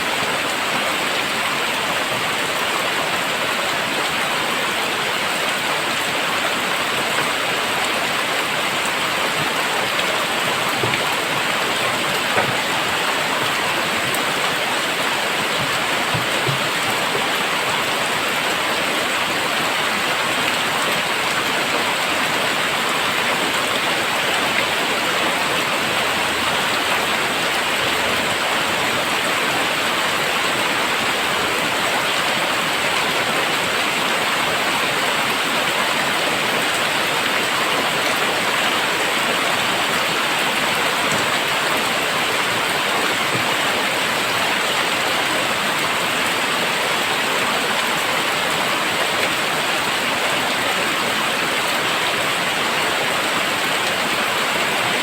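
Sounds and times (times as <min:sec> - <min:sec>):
heavy rain downpour: 0:00.0 - 0:55.0.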